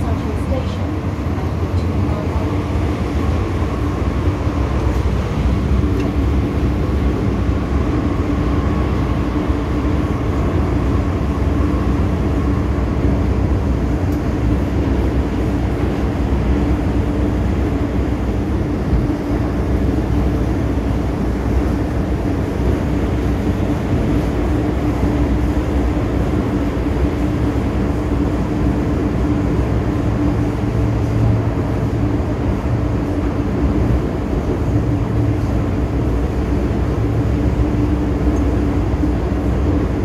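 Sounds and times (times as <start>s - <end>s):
steady hum: 0.0s - 40.0s
train wheels rumbling on rails: 0.0s - 40.0s.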